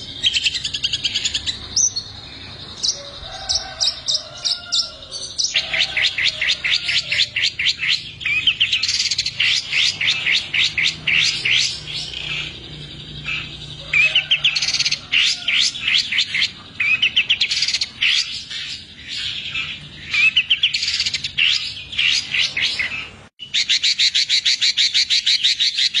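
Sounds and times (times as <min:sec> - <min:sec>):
bird singing rapid high notes: 0:00.0 - 0:26.0.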